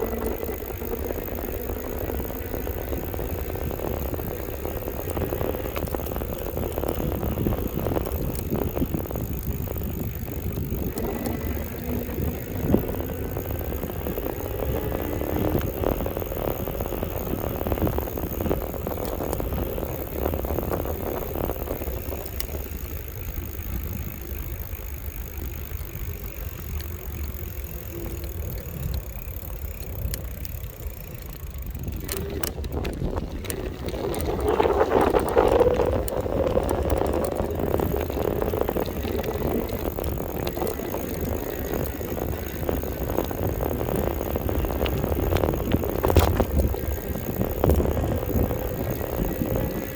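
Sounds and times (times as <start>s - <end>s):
bike clicks: 0.0s - 49.9s
wind and tyres on road: 0.0s - 49.9s.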